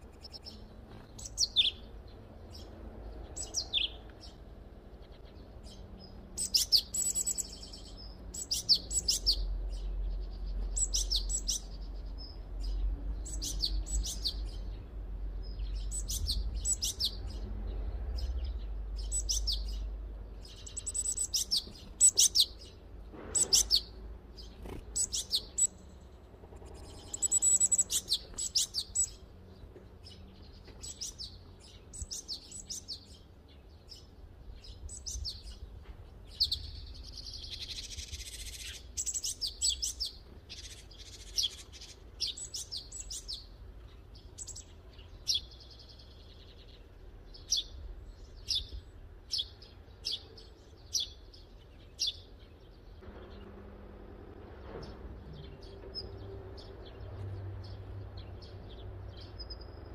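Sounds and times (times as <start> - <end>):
small bird chirping: 0.0 - 53.0, 55.2 - 59.9.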